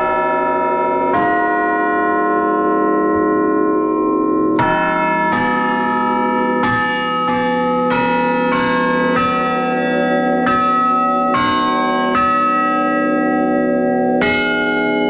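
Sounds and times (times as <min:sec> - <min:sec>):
tuned bells playing melody: 0:00.0 - 0:15.0.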